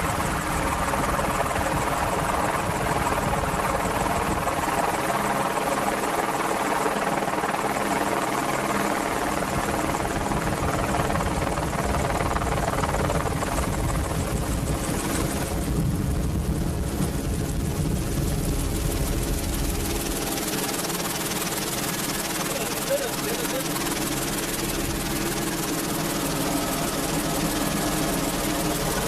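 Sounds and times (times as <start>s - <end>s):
helicopter rotor and engine drone: 0.0s - 29.0s.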